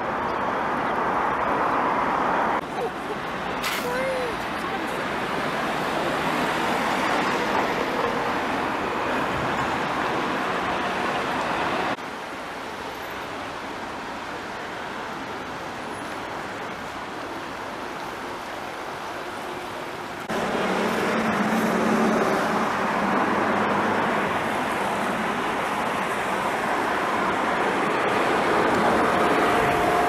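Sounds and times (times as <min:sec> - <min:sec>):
road traffic hiss: 0:00.0 - 0:30.0.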